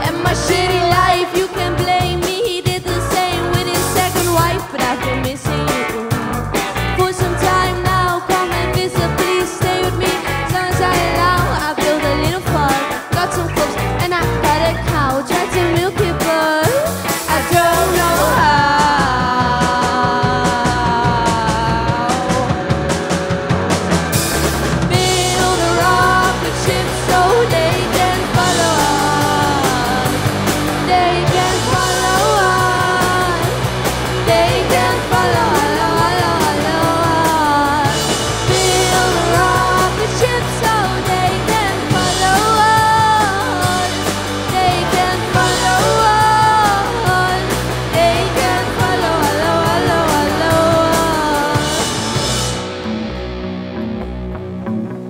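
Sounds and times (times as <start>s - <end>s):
woman singing: 0.0s - 6.1s, 6.8s - 22.9s, 24.9s - 52.0s
steady drum beat: 0.0s - 52.8s
bass: 0.0s - 55.0s
electric guitar: 0.0s - 55.0s.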